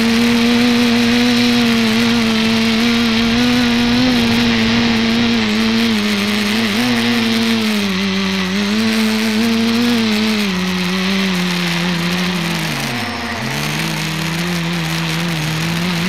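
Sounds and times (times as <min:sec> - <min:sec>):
drone motors and propellers droning: 0:00.0 - 0:16.0.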